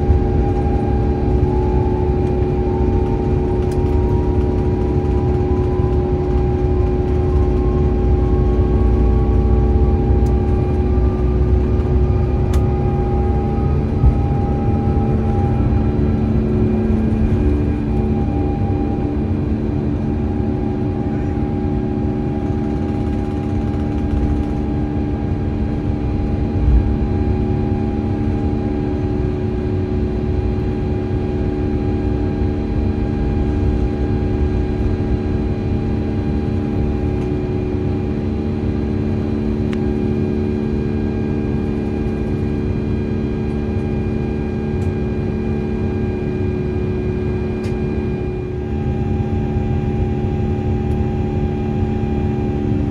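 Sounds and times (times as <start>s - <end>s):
jet engines humming: 0.0s - 29.1s, 32.8s - 52.9s
deep rumble of airflow: 0.0s - 52.9s.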